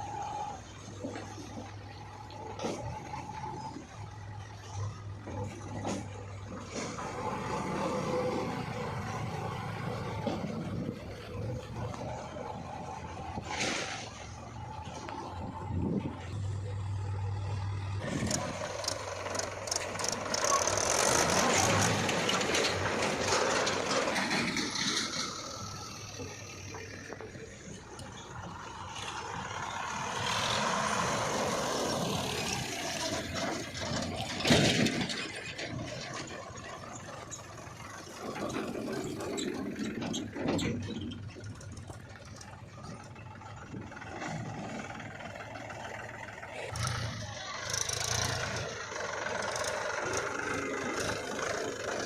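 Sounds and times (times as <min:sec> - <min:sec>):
diesel machinery engine working: 0:00.0 - 0:52.0.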